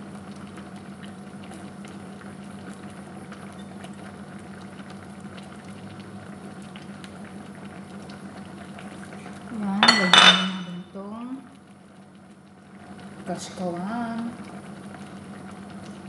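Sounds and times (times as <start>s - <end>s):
sauce bubbling in a pan: 0.0s - 9.8s, 10.7s - 16.0s
low steady hum: 0.0s - 16.0s.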